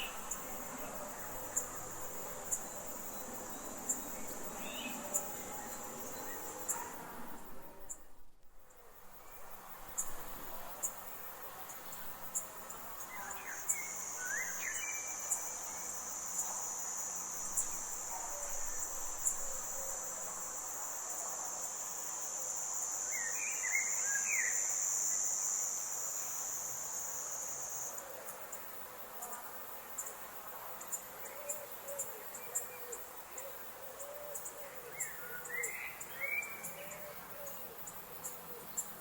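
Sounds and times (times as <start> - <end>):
high insect trill: 0.0 - 39.0.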